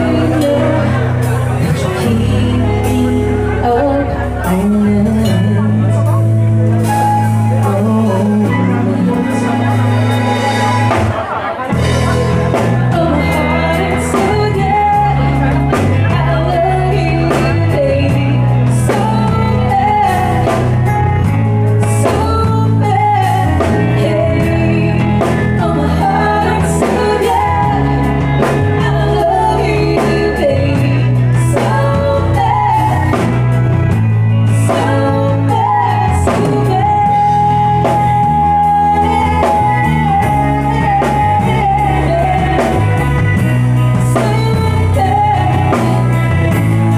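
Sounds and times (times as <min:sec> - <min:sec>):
bass line: 0:00.0 - 0:46.9
guitar: 0:00.0 - 0:46.9
lead singer: 0:00.0 - 0:46.9
drum kit beat: 0:04.4 - 0:46.9.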